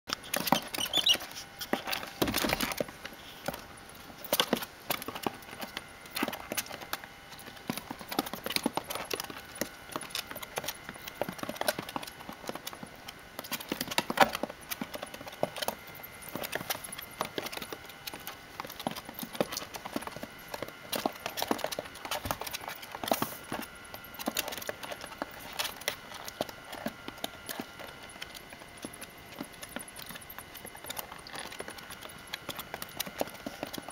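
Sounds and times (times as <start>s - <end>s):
claws clicking on hard plastic: 0.1s - 33.9s.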